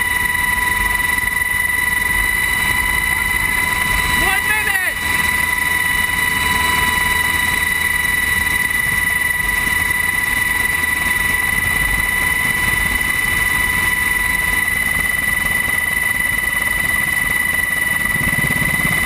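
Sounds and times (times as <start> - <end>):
helicopter engine and rotor noise: 0.0 - 19.0
high steady whine: 0.0 - 19.0.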